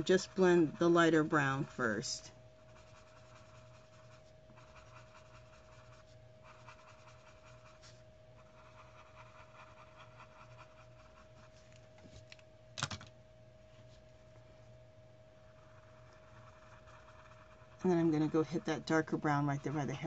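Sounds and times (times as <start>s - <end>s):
pencil scratching on paper: 0.0s - 11.6s, 15.4s - 20.0s.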